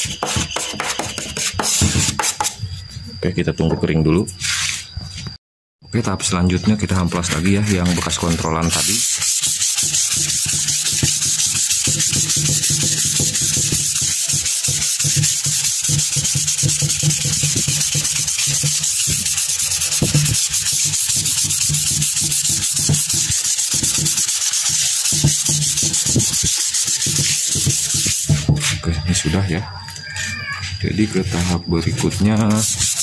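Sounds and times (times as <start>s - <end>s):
sandpaper scraping wood: 0.0s - 2.6s, 4.4s - 4.9s, 6.8s - 29.4s, 31.0s - 33.0s.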